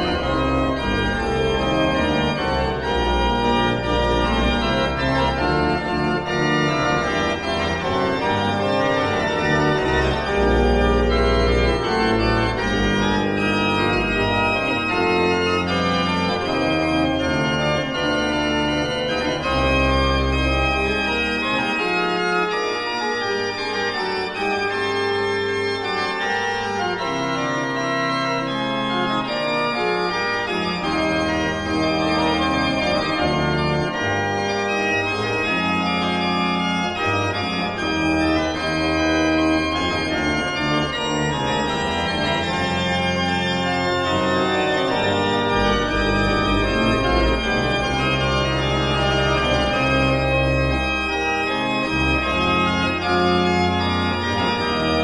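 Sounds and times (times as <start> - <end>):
organ pedal bass notes: 0.0 - 55.0
pipe organ chords: 0.0 - 55.0.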